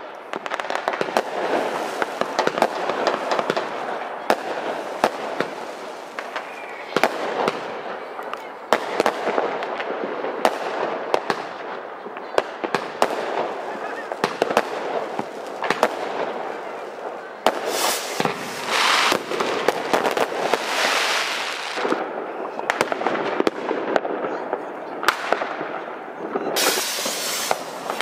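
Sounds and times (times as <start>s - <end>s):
fireworks bangs: 0.0s - 28.0s
fireworks crackle: 0.0s - 28.0s.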